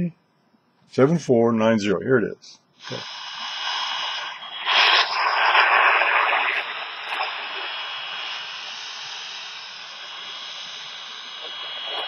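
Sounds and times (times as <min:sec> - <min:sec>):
shortwave radio static and hiss: 0:01.0 - 0:12.0.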